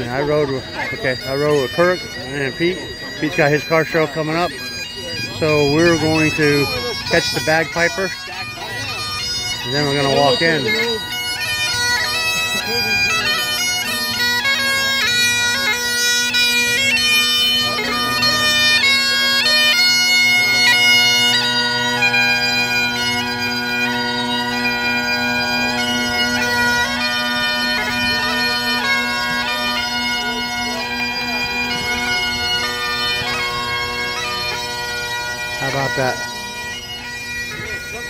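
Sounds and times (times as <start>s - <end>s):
bagpipes playing a tune: 0.0s - 38.0s.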